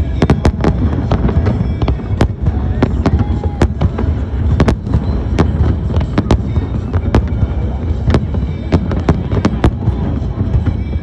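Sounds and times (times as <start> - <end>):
fireworks bangs and rumble: 0.0 - 11.0.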